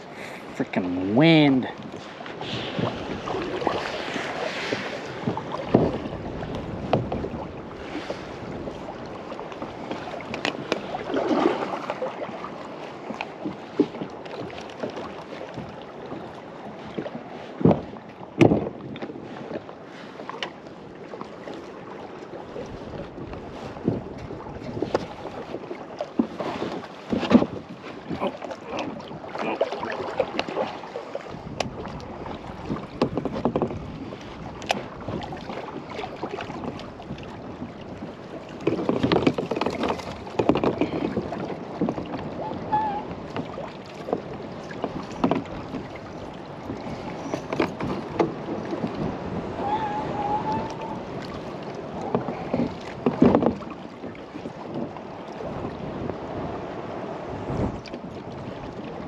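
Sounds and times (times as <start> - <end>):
paddle strokes splashing: 0.0 - 59.0
water sloshing against hull: 0.0 - 59.0
paddle knocking on boat: 0.4 - 59.0.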